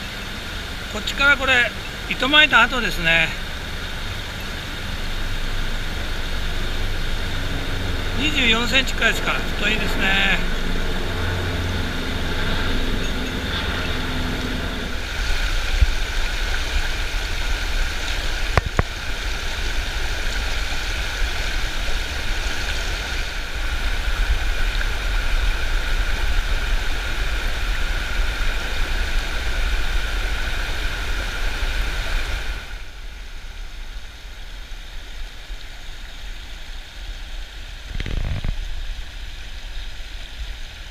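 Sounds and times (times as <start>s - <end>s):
river rushing over stones: 0.0s - 40.9s.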